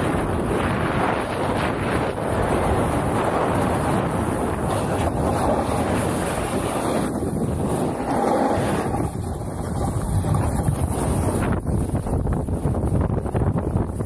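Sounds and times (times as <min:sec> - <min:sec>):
snowboard carving over snow: 0:00.0 - 0:14.0
wind buffeting microphone: 0:00.0 - 0:14.0.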